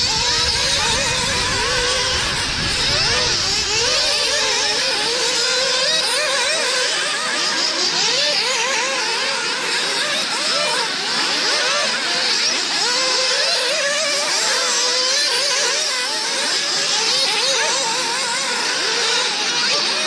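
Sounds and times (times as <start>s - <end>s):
nitro engines revving: 0.0s - 20.0s.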